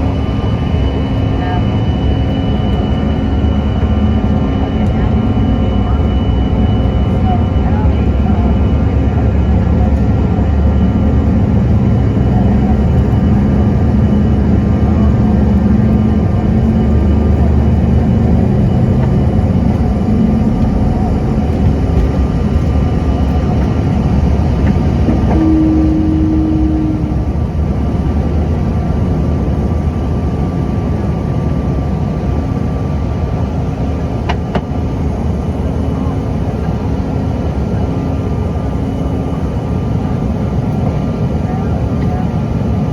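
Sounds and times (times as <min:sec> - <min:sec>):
jet engines rumbling in cabin: 0:00.0 - 0:42.9.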